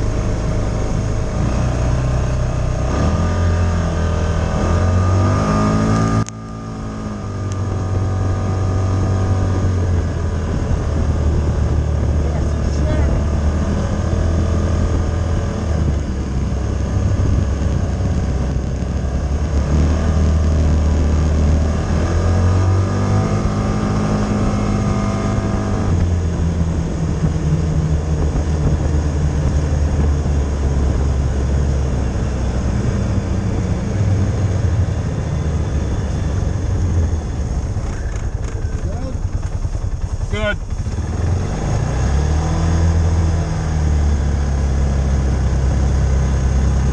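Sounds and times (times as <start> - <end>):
vehicle engine accelerating: 0.0 - 46.9.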